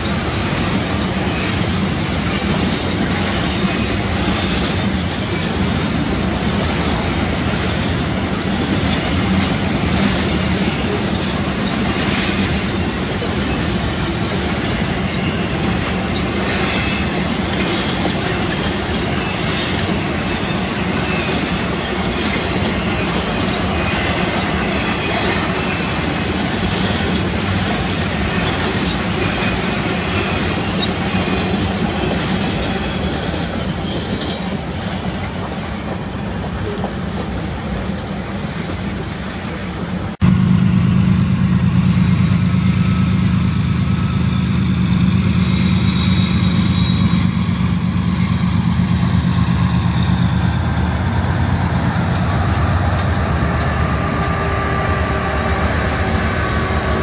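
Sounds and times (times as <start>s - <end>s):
diesel locomotives droning: 0.0s - 57.0s
train wheels rumbling on rails: 0.0s - 57.0s.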